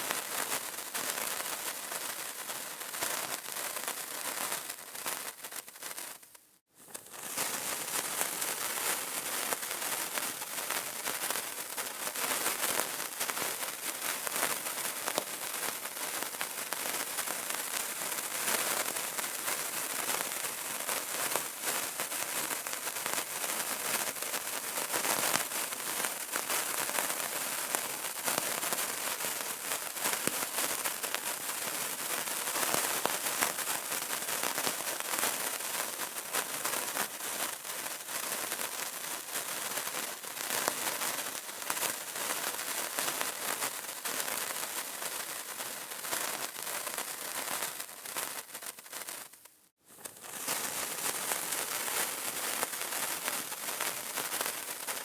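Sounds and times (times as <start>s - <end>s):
candle crackling: 0.0s - 55.0s.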